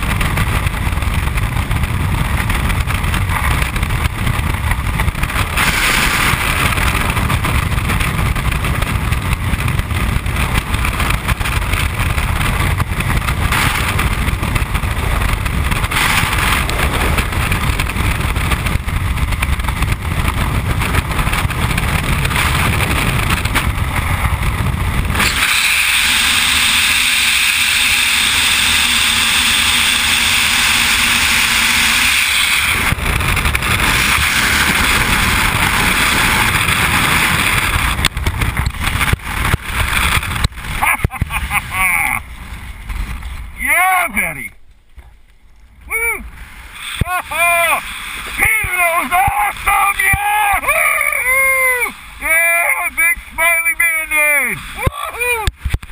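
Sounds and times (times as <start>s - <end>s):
high wind hiss: 0.0s - 55.9s
wind roaring over microphone: 0.0s - 55.9s.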